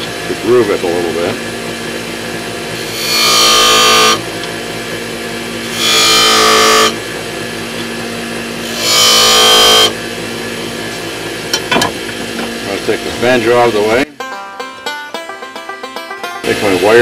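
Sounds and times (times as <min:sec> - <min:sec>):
chisel cutting spinning wood: 0:00.0 - 0:14.0
wood lathe running: 0:00.0 - 0:14.0.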